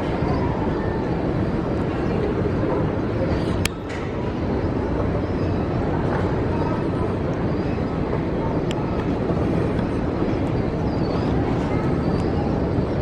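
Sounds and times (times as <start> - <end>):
background crowd voices: 0.0 - 13.0
luggage carousel rumbling: 0.0 - 13.0.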